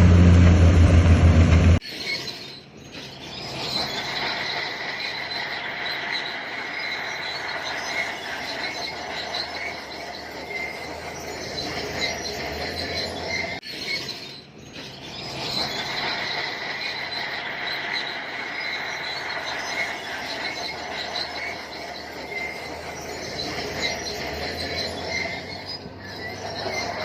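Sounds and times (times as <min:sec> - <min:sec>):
diesel engine running: 0:00.0 - 0:01.8, 0:03.0 - 0:13.6, 0:14.6 - 0:27.0
bulldozer tracks squealing: 0:00.0 - 0:27.0.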